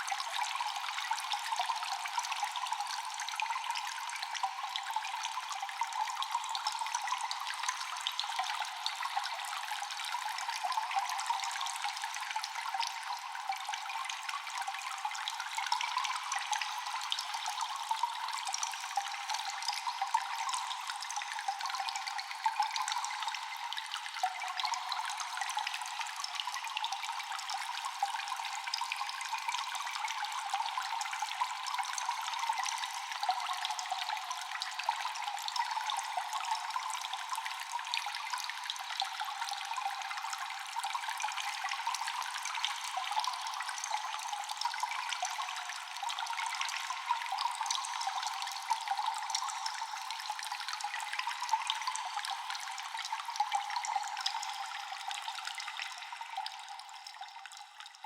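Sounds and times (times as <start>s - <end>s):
water dripping in a cave: 0.0s - 58.0s
water trickling: 0.0s - 58.0s.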